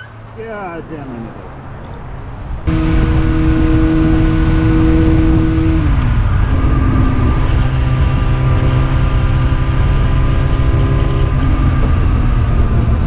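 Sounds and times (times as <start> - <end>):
wind rumble on microphone: 1.9 - 13.0
motorcycle engine cruising: 2.2 - 13.0.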